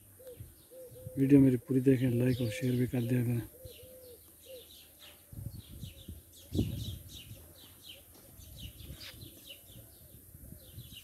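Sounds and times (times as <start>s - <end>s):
dove cooing: 0.0s - 11.0s
small birds chirping: 0.0s - 11.0s.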